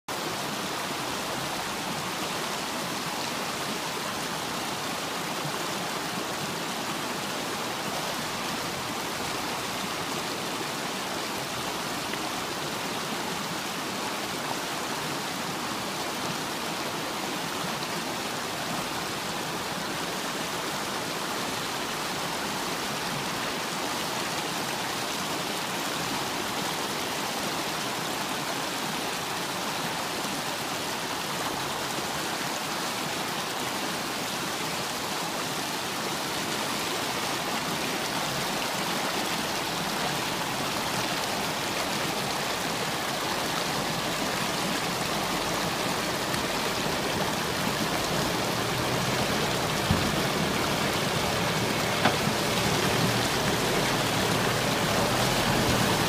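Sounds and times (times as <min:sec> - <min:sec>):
river rushing over boulders: 0:00.1 - 0:56.0.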